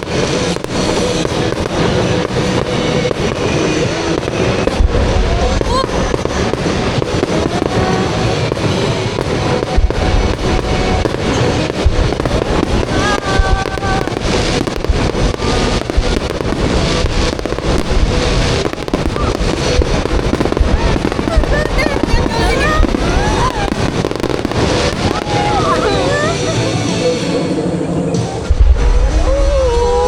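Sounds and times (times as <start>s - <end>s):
fireworks booming and cracking: 0.0s - 30.0s
music playing: 0.0s - 30.0s.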